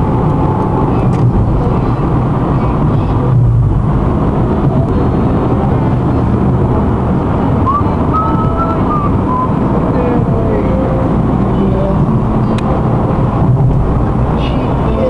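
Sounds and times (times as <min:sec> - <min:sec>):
car cabin road and engine drone: 0:00.0 - 0:15.0.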